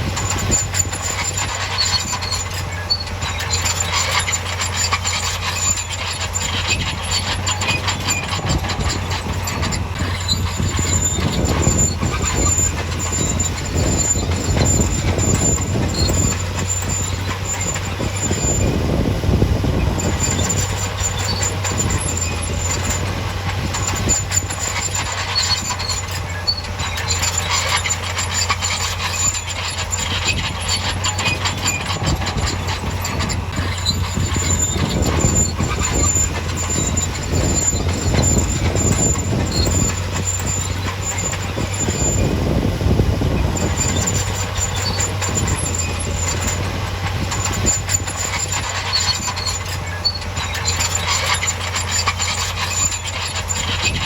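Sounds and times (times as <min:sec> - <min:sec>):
bulldozer diesel drone: 0:00.0 - 0:54.0
metallic clanking of tracks: 0:00.0 - 0:54.0
steel tracks squealing: 0:00.0 - 0:54.0.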